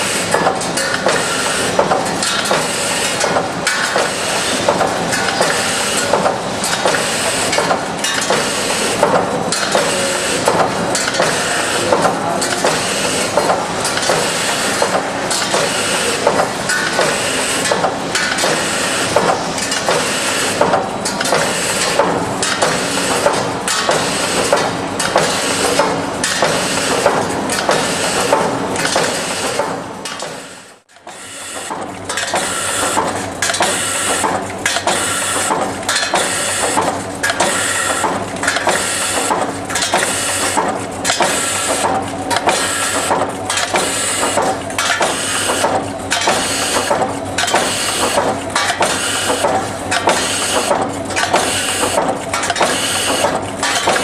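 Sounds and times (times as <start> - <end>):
machine rhythmic clatter: 0.0 - 54.0.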